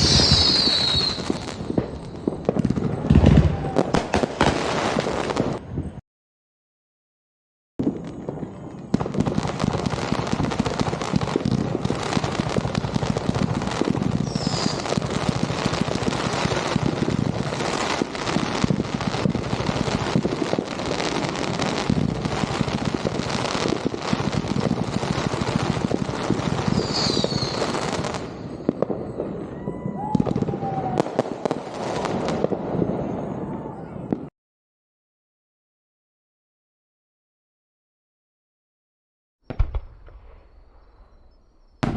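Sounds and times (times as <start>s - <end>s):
firework whistles: 0.0s - 6.0s, 7.8s - 34.3s, 39.4s - 41.9s
fireworks bangs and crackles: 0.0s - 6.0s, 7.8s - 34.3s, 39.4s - 41.9s.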